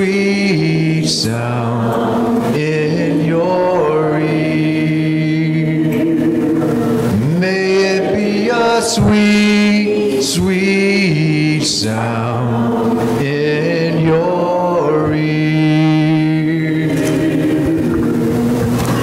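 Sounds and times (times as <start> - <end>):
slow hymn singing: 0.0 - 19.0.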